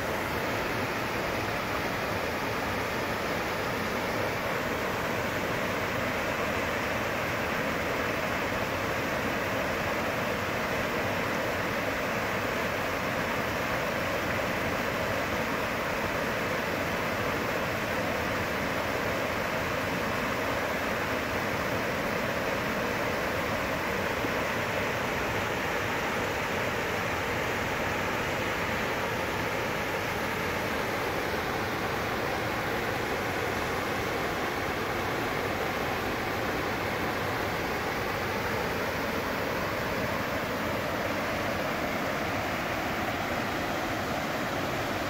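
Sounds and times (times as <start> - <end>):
waterfall and stream rushing: 0.0 - 45.0.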